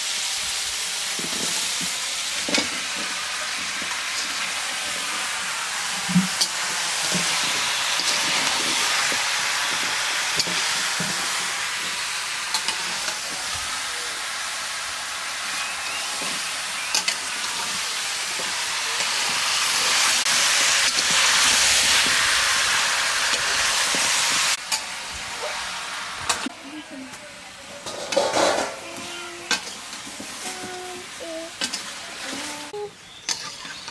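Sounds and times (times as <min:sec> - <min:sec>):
curry sizzling in hot oil: 0:00.0 - 0:26.9, 0:27.6 - 0:33.9.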